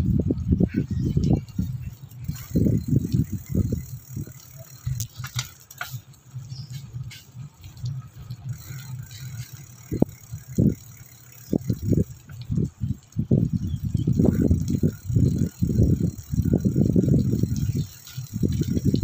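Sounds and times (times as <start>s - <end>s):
bicycle thumps and rattles: 0.0s - 19.0s
bicycle tyres on concrete: 0.0s - 19.0s
wind rumble: 0.0s - 19.0s.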